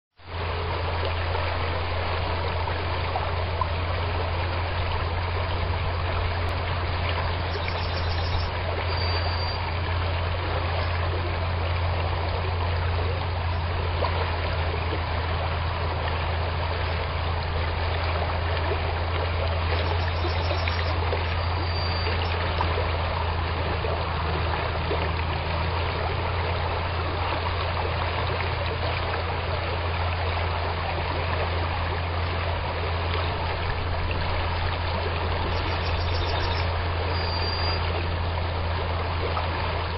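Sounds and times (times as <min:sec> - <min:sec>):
river flowing: 0:00.2 - 0:39.9.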